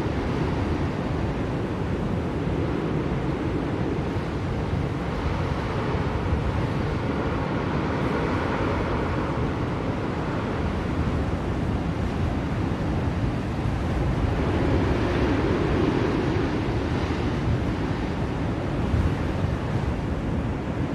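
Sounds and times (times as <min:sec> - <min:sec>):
blizzard wind rushing: 0:00.0 - 0:20.9.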